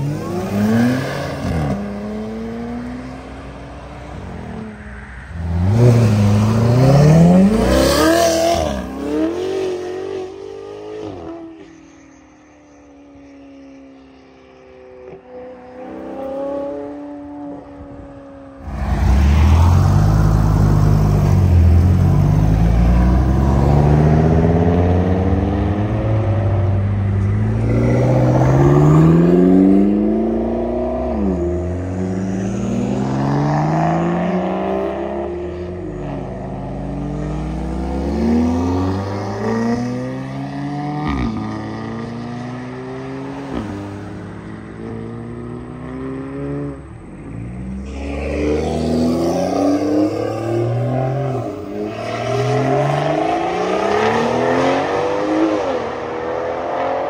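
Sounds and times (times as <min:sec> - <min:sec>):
car engines accelerating: 0:00.0 - 0:57.0.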